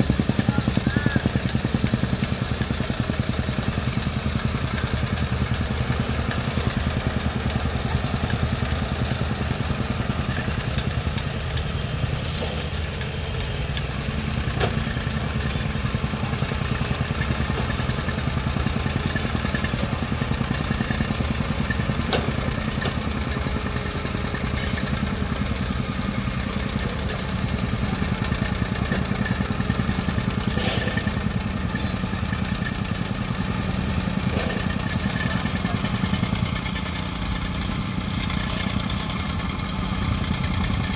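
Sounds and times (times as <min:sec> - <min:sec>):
tamping rammer pounding: 0:00.0 - 0:40.9.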